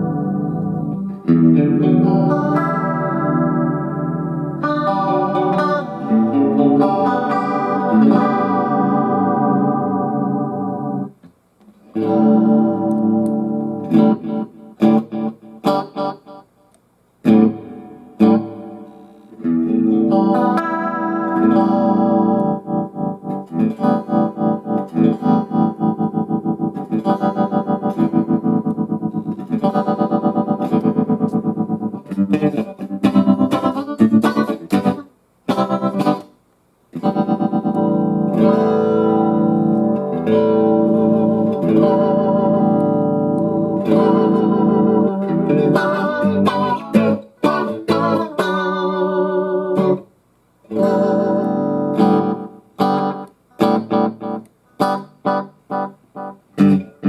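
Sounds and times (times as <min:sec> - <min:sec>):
distorted electric guitar chords: 0:00.0 - 0:11.2, 0:11.8 - 0:16.6, 0:17.2 - 0:50.1, 0:50.7 - 0:57.0.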